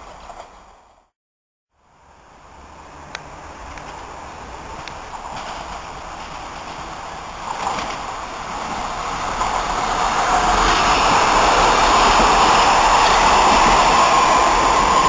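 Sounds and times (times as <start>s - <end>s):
electric train passing: 1.8s - 15.0s.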